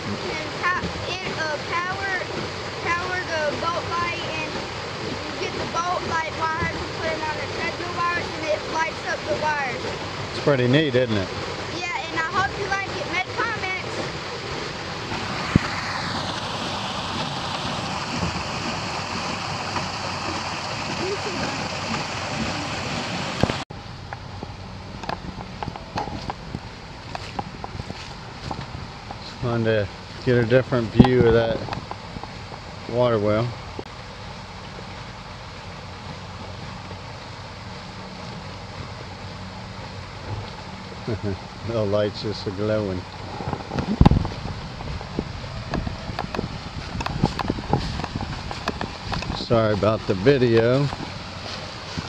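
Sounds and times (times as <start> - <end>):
water rushing through water wheel: 0.0 - 52.0.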